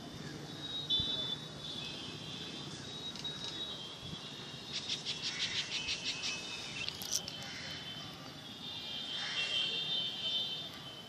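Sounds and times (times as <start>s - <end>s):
insect high whine: 0.0s - 11.0s
insect chirps: 0.1s - 11.0s.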